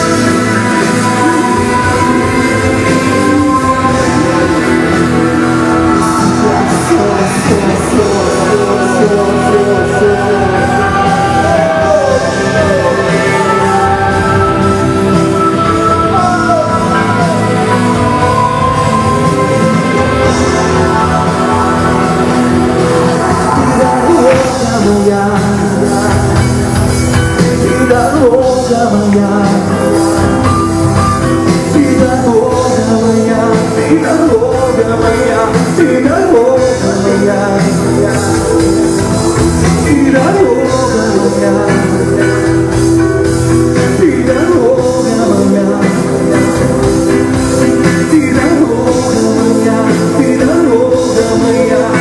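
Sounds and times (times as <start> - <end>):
loud rock music: 0.0 - 52.0.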